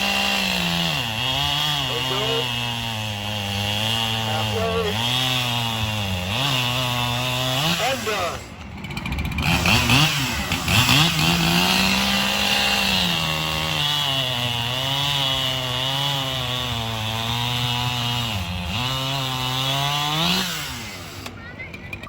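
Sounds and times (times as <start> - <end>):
chainsaw cutting through log: 0.0 - 21.4.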